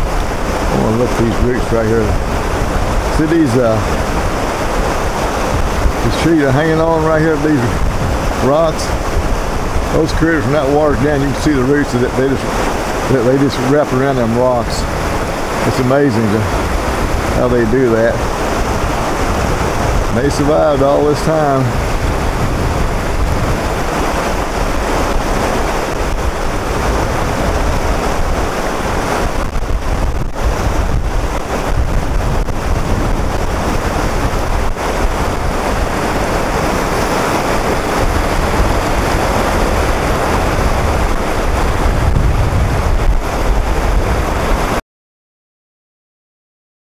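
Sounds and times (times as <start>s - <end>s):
river rapids rushing: 0.0s - 44.8s
wind rumbling on microphone: 0.0s - 44.8s.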